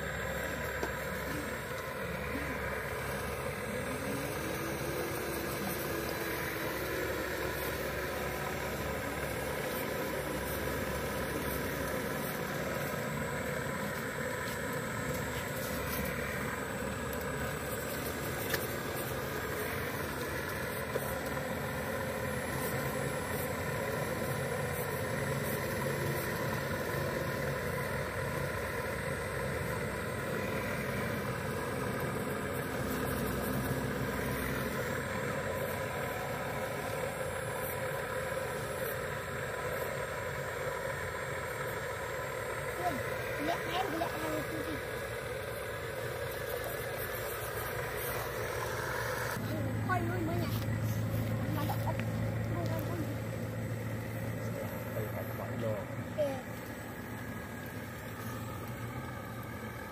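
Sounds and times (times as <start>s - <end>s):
toy excavator motor drone: 0.0s - 59.9s.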